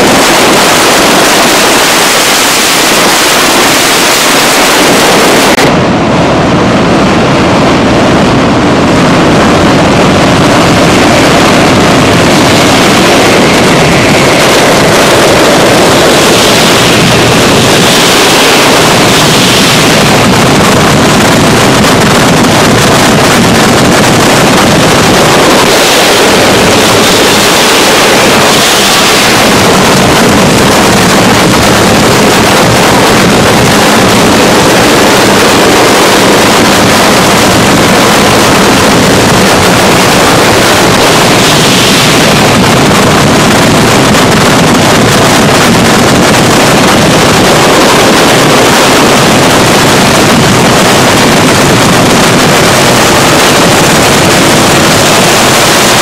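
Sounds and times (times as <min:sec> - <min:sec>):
firecrackers exploding rapidly: 0:00.0 - 0:56.0.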